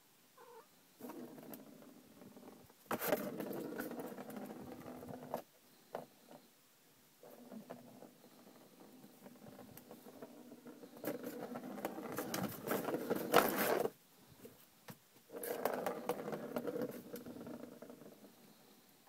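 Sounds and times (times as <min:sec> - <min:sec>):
plastic ball rolling in cat toy: 0:01.0 - 0:06.4, 0:07.2 - 0:14.0, 0:15.3 - 0:18.7.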